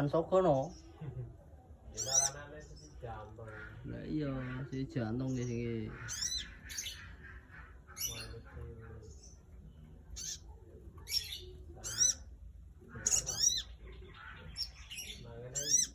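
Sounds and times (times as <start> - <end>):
small bird chirping: 1.8 - 15.9.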